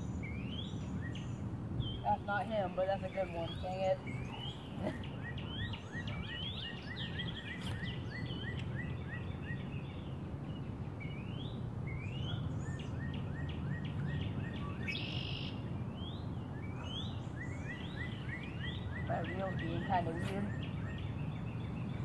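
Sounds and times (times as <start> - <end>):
birds chirping: 0.0 - 22.0
low outdoor background noise: 0.0 - 22.0.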